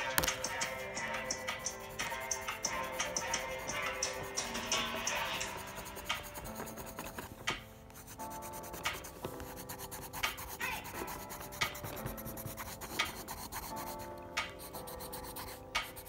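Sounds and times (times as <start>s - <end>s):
background music with held notes: 0.0s - 16.0s
pencil scratching on paper: 0.0s - 16.0s.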